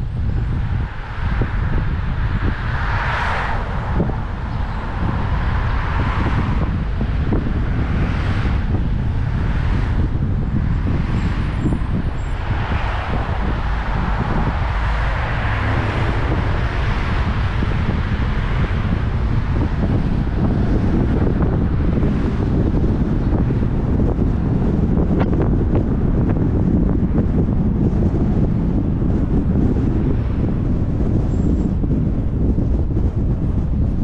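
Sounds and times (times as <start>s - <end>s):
road and traffic rumble: 0.0s - 34.0s
wind buffeting a camera: 0.0s - 34.0s.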